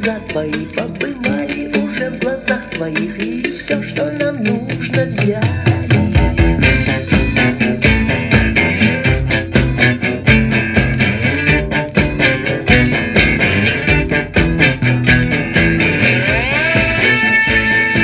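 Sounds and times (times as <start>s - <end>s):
bass guitar: 0.0s - 18.0s
electric guitar: 0.0s - 18.0s
steady drum beat: 0.0s - 18.0s.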